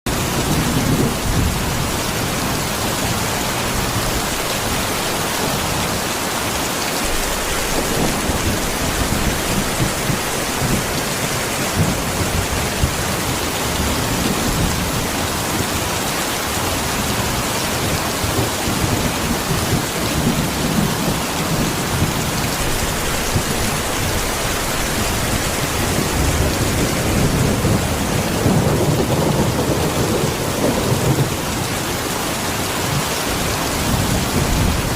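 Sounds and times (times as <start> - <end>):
low thunder rumbling: 0.1 - 16.0, 16.8 - 34.9
steady rain falling: 0.1 - 34.9.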